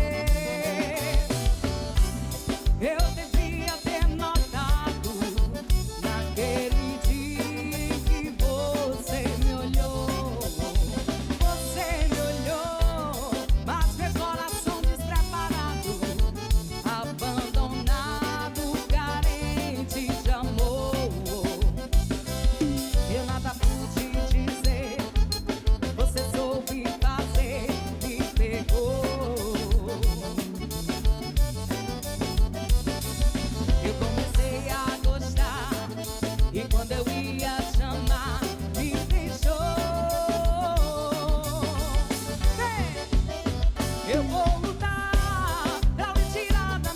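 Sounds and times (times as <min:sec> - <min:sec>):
bending melody line: 0:00.0 - 0:46.9
drum kit beat: 0:00.0 - 0:46.9.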